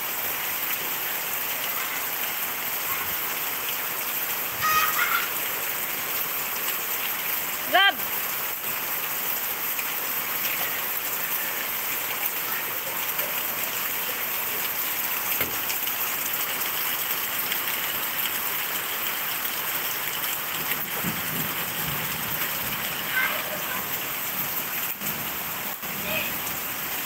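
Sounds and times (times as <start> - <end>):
heavy rain on leaves and pavement: 0.0 - 27.0.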